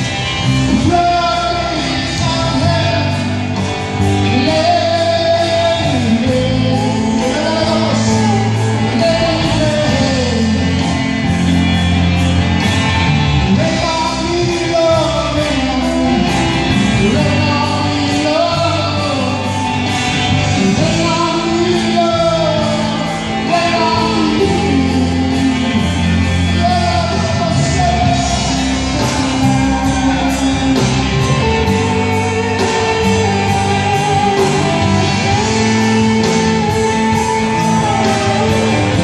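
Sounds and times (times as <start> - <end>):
bass guitar: 0.0 - 39.0
drum kit: 0.0 - 39.0
electric guitars: 0.0 - 39.0
person singing: 0.0 - 39.0.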